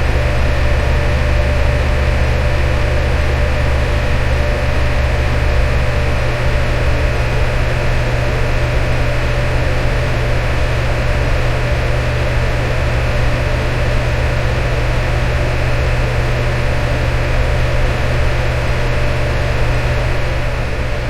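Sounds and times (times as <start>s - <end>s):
electric fan running: 0.0s - 21.0s.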